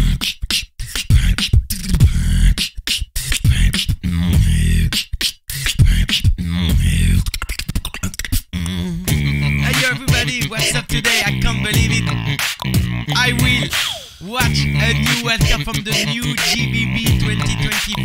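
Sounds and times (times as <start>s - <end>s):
beatboxing into a microphone: 0.0s - 18.0s.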